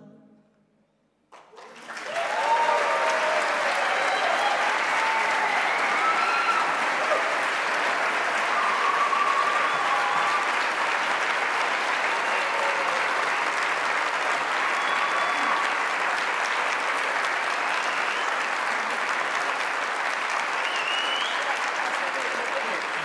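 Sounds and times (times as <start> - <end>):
audience applauding: 1.3 - 23.0.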